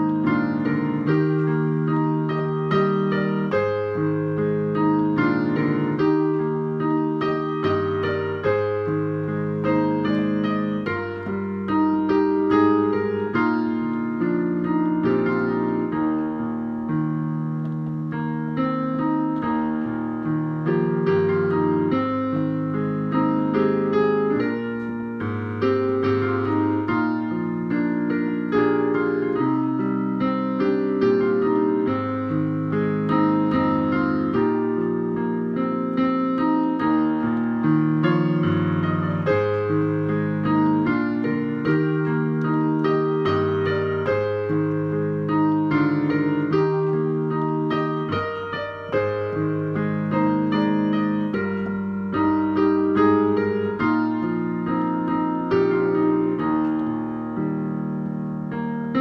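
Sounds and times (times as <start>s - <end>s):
hymn on digital piano: 0.0s - 59.0s.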